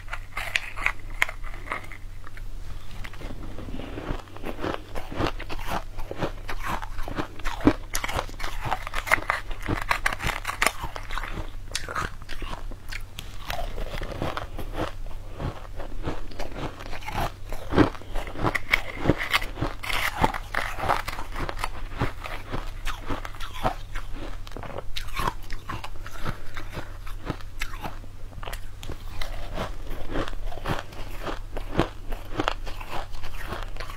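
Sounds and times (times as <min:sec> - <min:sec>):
crunching and chewing ice: 0:00.0 - 0:33.9.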